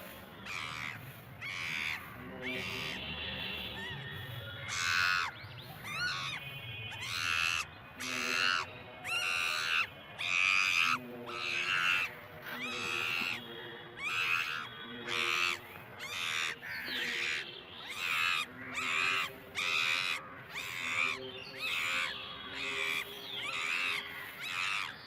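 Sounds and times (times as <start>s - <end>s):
harsh animal calls: 0.0s - 4.0s, 4.6s - 25.0s.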